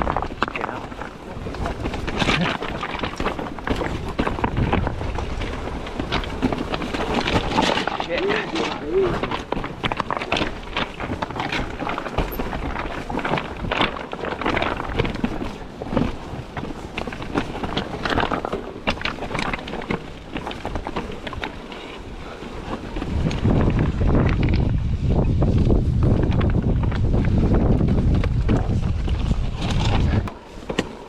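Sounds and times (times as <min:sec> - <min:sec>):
wind buffeting microphone: 0:00.0 - 0:30.7
bike rattling over rocks: 0:00.0 - 0:31.0.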